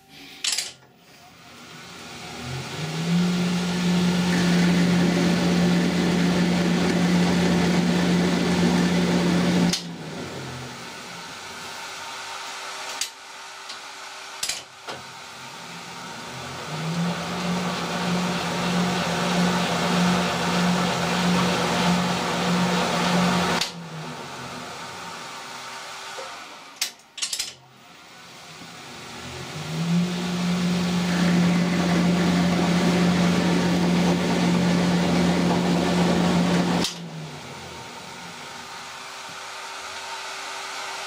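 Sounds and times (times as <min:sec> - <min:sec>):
lathe whirring hum: 0:01.4 - 0:26.8, 0:27.8 - 0:41.0.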